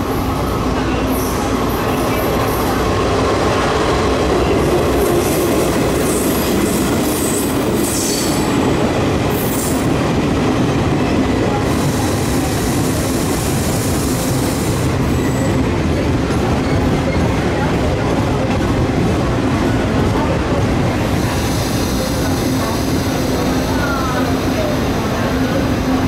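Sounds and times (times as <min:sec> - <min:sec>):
train wheels running on rails: 0:00.0 - 0:26.0.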